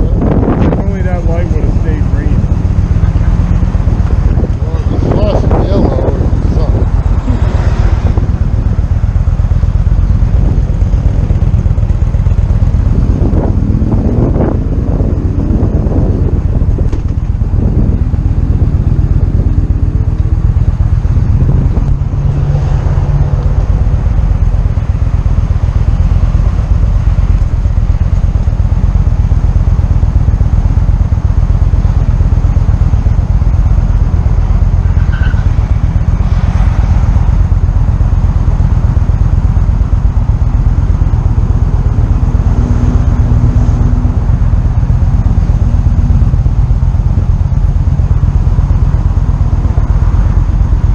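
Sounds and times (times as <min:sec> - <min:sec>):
motorcycle engine running: 0:00.0 - 0:50.9
wind rumble on microphone: 0:00.0 - 0:50.9.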